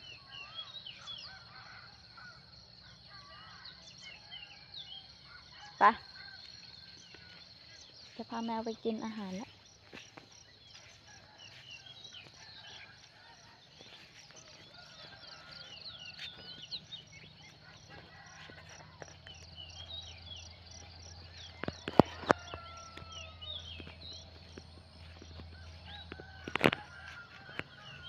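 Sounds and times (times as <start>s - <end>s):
insects droning: 0.0s - 28.0s
small birds chirping: 3.4s - 28.0s.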